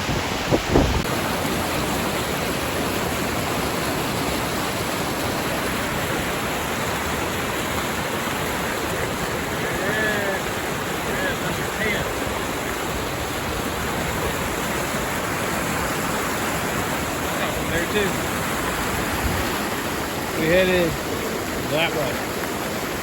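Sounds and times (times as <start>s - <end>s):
river rapids rushing: 0.0s - 23.0s.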